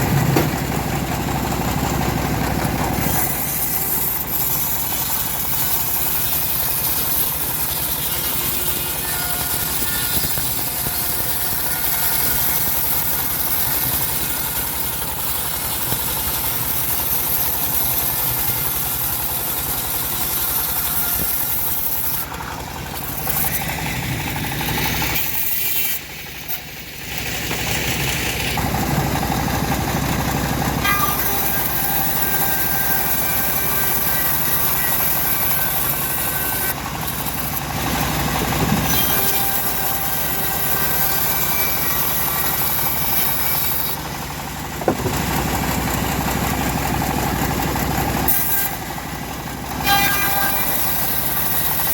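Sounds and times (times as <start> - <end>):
bandsaw mill engine running: 0.0 - 51.9.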